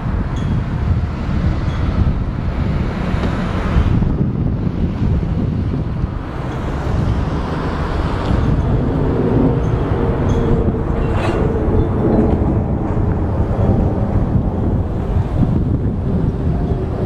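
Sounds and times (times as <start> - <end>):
jet engines overhead: 0.0 - 17.0
wind buffeting microphone: 0.0 - 17.0.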